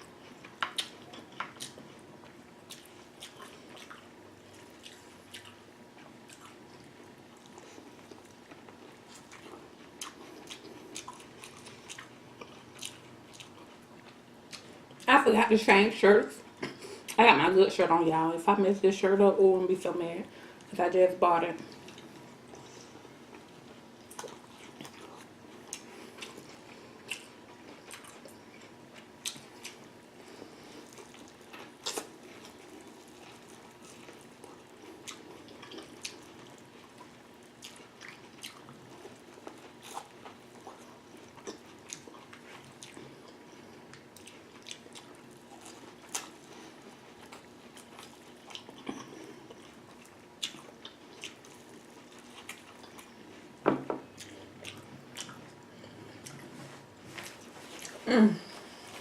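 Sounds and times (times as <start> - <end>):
faint steady hum: 0.0 - 59.0
wet smacking and chewing: 0.3 - 15.1, 21.7 - 58.0.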